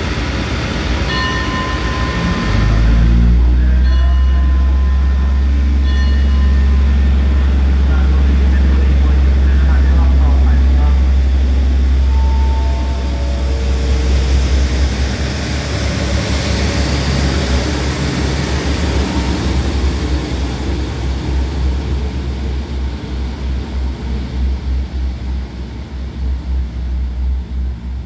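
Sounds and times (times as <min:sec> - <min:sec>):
diesel engine drone: 0:00.0 - 0:28.0.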